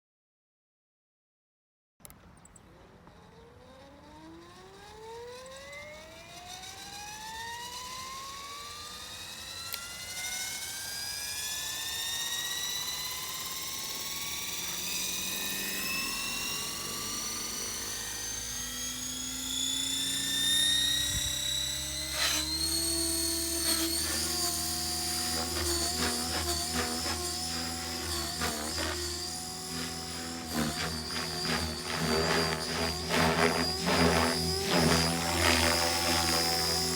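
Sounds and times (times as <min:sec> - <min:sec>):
helicopter motor whine: 0:02.6 - 0:36.9.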